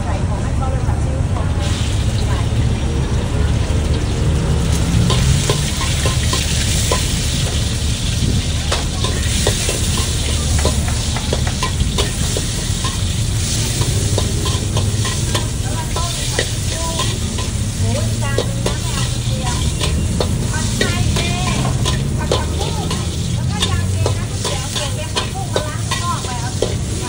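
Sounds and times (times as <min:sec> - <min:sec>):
steady low rumble: 0:00.0 - 0:27.0
meat sizzling in a wok: 0:01.5 - 0:27.0
spatula scraping and tapping wok: 0:04.6 - 0:27.0.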